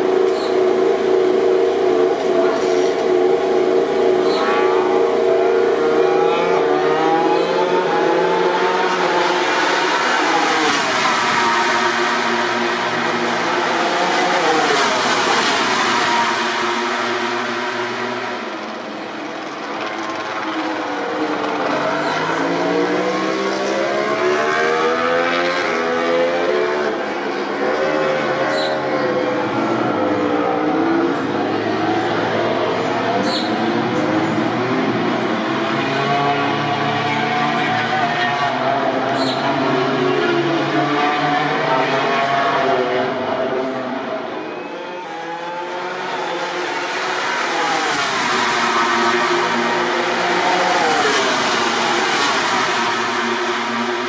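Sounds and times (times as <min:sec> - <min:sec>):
racing motorcycle engines droning: 0:00.0 - 0:54.0.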